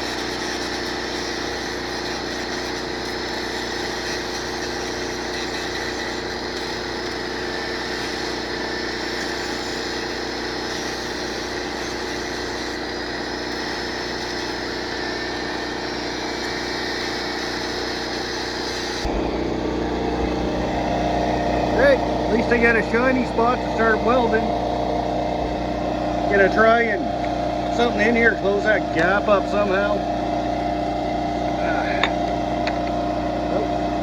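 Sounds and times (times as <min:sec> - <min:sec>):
angle grinder grinding metal: 0:00.0 - 0:34.0
generator engine running: 0:00.0 - 0:34.0.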